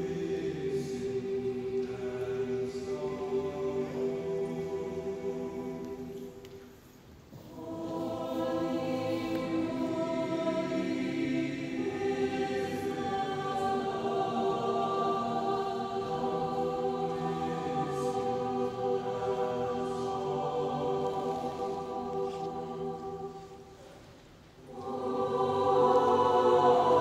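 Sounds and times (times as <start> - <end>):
mixed choir singing chords: 0.0 - 27.0.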